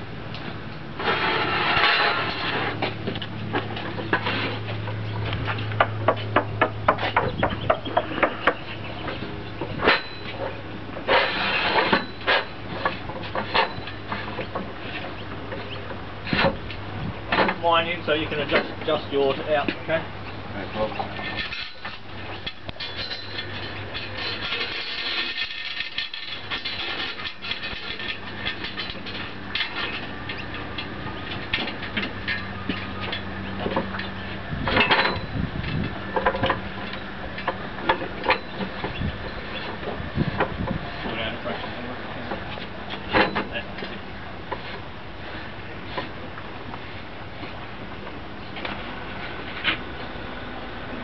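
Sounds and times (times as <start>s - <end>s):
engine idling with low hum: 0.0s - 51.0s
metal scrapes and rattles: 0.5s - 47.7s.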